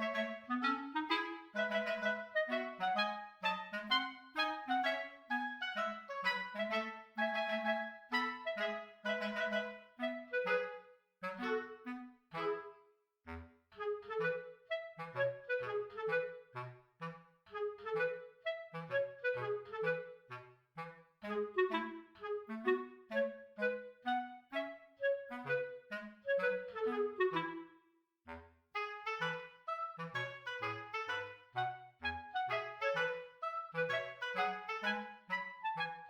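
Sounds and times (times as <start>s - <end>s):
wind instrument melody: 0.0s - 27.7s, 28.8s - 36.0s.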